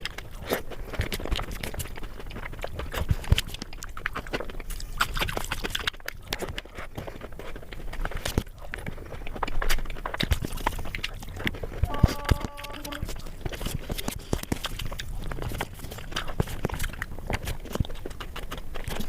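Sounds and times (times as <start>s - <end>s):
wet chewing and mouth sounds: 0.0s - 19.0s.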